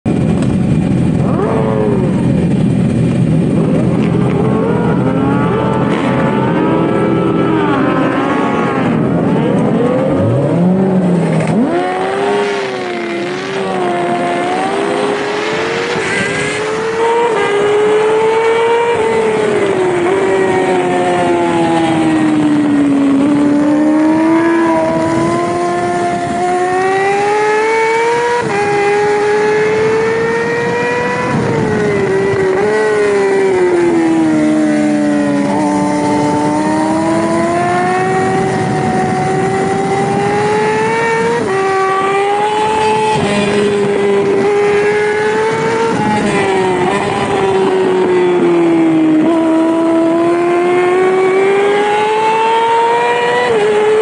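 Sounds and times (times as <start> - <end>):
motorcycle engines revving: 0.0 - 54.0
motorcycle accelerating through gears: 0.1 - 54.0.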